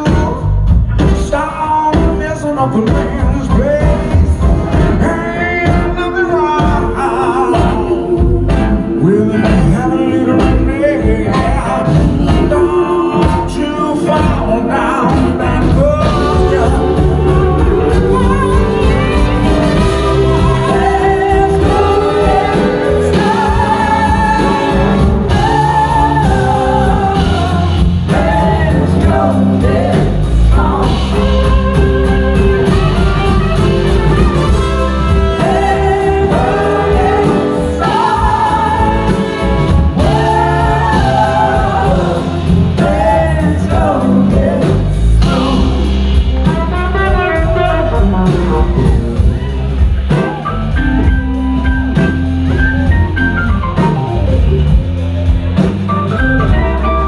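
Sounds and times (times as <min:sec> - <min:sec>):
drums: 0:00.0 - 0:57.0
lead and backing singers: 0:00.0 - 0:57.0
live band playing: 0:00.0 - 0:57.0.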